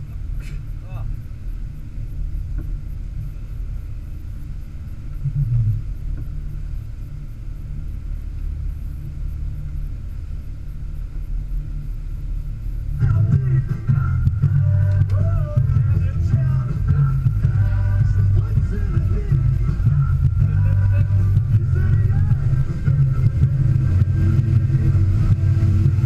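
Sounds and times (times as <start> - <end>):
boat engine rumble: 0.0 - 26.0.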